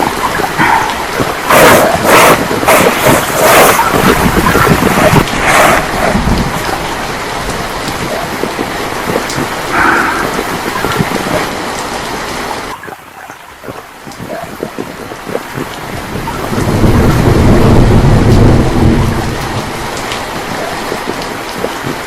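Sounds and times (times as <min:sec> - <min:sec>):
heavy rain pouring: 0:00.0 - 0:22.0
thunder rumbling: 0:00.0 - 0:22.0.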